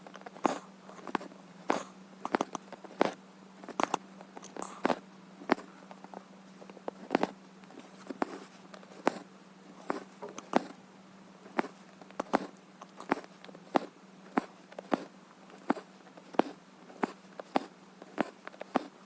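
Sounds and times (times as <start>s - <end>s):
steady low hum: 0.0s - 19.0s
needle clicking through fabric: 0.2s - 5.7s, 6.9s - 9.2s, 9.8s - 10.8s, 11.5s - 19.0s.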